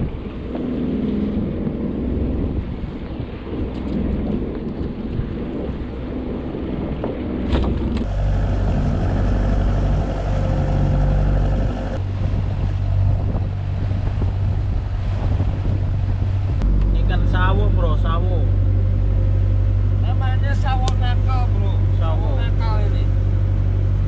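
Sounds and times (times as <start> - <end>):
boat engine running: 0.0 - 24.0
wind on microphone: 0.0 - 24.0.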